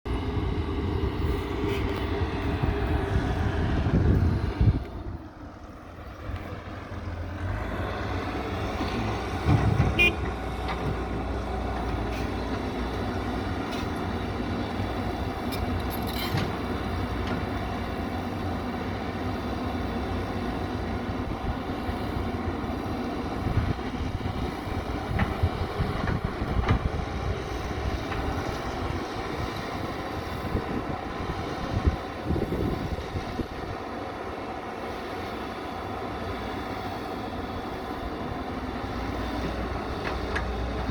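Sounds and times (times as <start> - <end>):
diesel engine running: 0.1 - 40.9.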